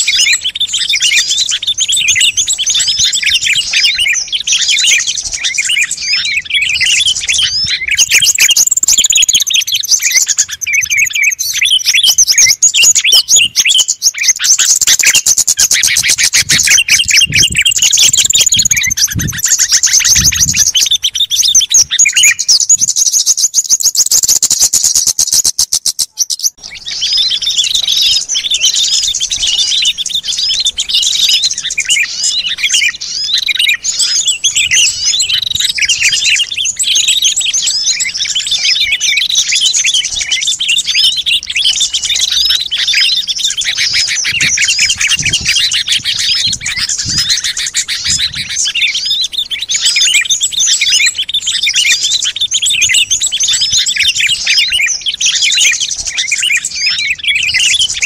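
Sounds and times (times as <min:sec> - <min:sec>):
fast rattling bird trill: 0:00.0 - 0:58.0
small birds chirping: 0:00.0 - 0:58.0.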